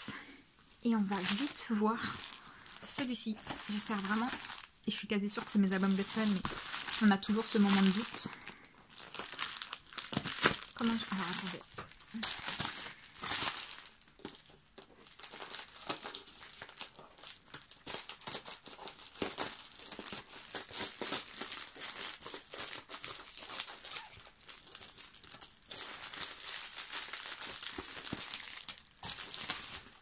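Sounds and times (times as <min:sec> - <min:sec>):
plastic mailer bag crinkling: 0:00.9 - 0:30.0.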